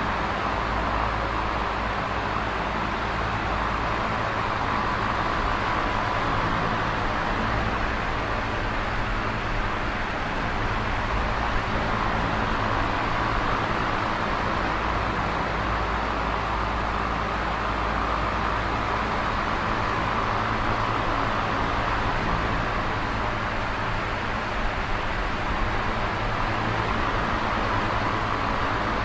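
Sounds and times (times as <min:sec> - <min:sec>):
electric fan air rush: 0:00.0 - 0:29.0.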